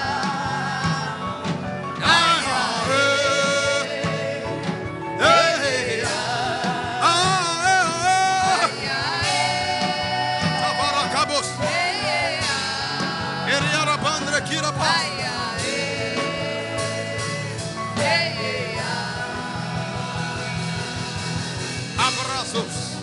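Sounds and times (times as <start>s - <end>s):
sustained instrumental backing: 0.0s - 23.0s.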